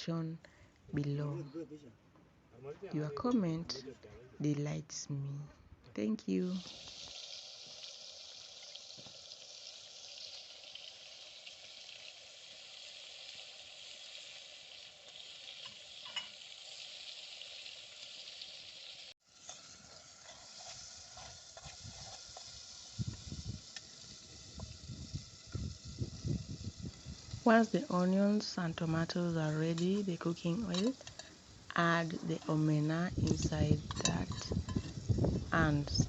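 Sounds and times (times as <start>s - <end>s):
vegetables sizzling in oil: 6.3s - 36.0s.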